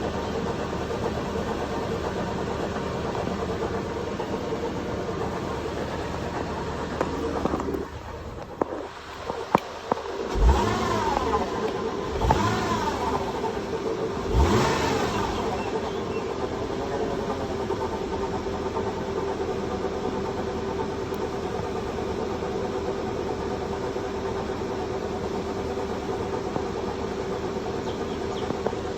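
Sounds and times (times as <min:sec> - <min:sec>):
car engine revving and idling: 0:00.0 - 0:28.9.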